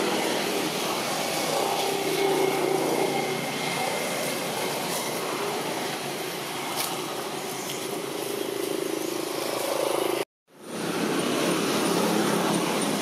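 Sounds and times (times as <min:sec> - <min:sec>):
motor vehicle engine drone: 0:00.0 - 0:13.0.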